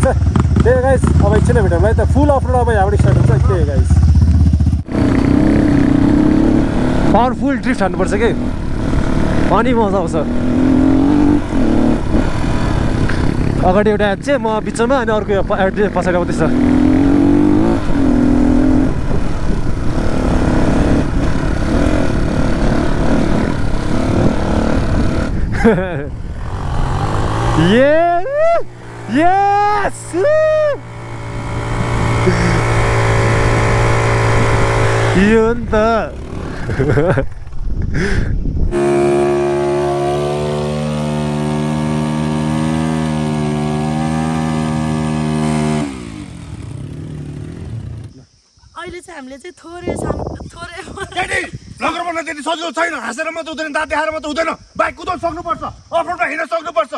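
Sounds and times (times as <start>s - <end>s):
dirt bike engine revving: 0.0s - 48.2s.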